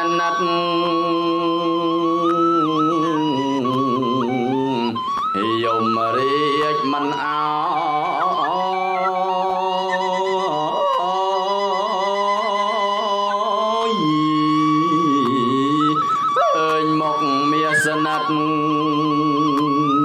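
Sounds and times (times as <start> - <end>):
held instrumental tone: 0.0 - 20.0
person chanting: 0.0 - 20.0.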